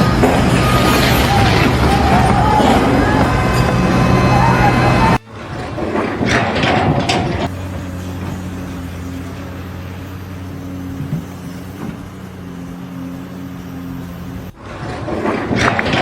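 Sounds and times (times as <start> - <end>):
engine humming: 0.0 - 16.0
loud clatter: 0.0 - 16.0.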